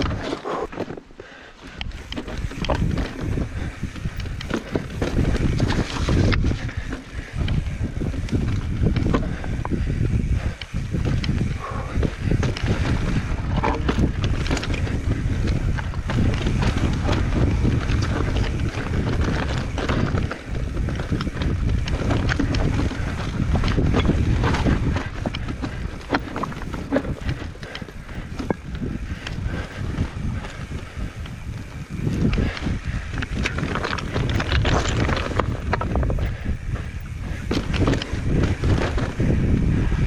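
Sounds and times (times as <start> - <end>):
bike clicks knocks and rattles: 0.0 - 40.0
wind buffeting microphone: 0.0 - 40.0.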